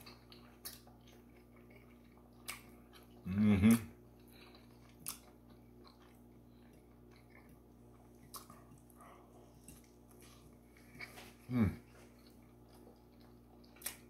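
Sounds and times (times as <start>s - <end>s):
man chewing: 0.0s - 14.0s.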